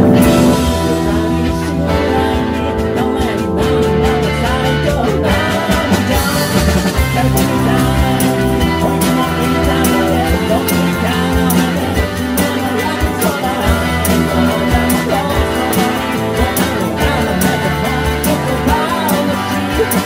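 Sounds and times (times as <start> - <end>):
electric guitar: 0.0 - 20.0
keyboard: 0.0 - 20.0
steady drum beat: 0.0 - 20.0.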